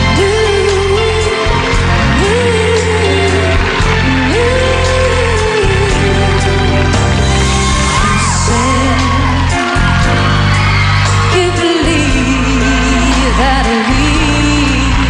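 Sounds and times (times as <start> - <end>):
woman singing pop ballad: 0.0 - 6.9, 7.8 - 10.0, 10.8 - 15.0
band accompaniment: 0.0 - 15.0.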